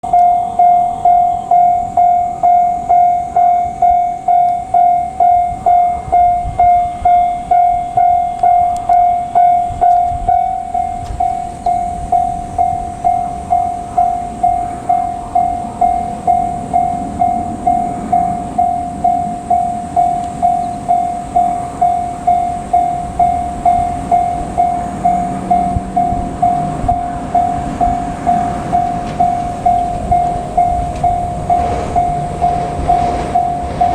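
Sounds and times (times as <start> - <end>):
electric train rumbling past: 0.0 - 33.9
level-crossing warning bell: 0.0 - 33.9.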